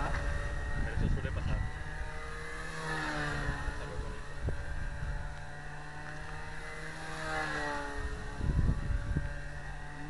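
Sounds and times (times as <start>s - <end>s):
model plane motor passing: 0.0s - 10.0s.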